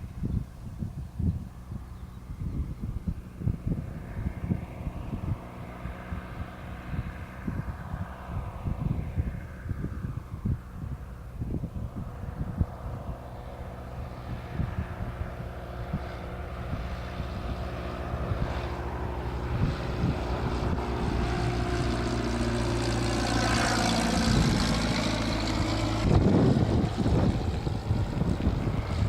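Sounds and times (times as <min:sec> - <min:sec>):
light aircraft engine droning: 0:00.0 - 0:29.0.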